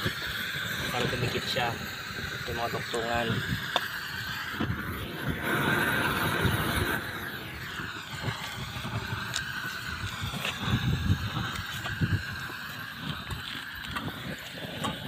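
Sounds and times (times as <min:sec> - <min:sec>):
gas torch burning: 0:00.0 - 0:15.0.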